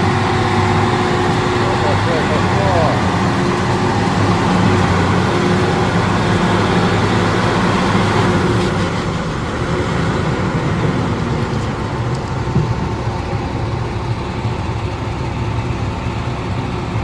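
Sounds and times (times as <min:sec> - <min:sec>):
diesel truck engine under load: 0:00.0 - 0:17.0.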